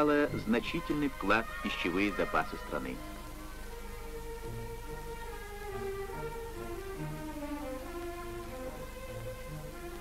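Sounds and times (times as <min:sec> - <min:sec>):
low steady hum: 0:00.0 - 0:10.0
orchestral string music: 0:00.0 - 0:10.0.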